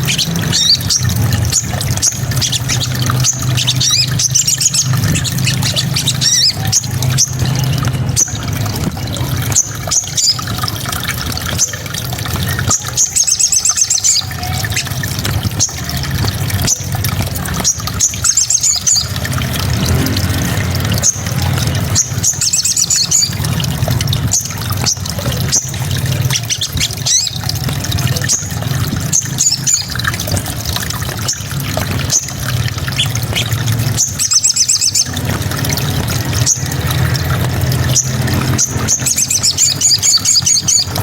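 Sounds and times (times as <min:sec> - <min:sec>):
songbird trilling and chirping: 0:00.0 - 0:10.6, 0:12.4 - 0:17.0, 0:17.6 - 0:19.2, 0:21.0 - 0:23.6, 0:24.2 - 0:30.4, 0:31.0 - 0:41.0.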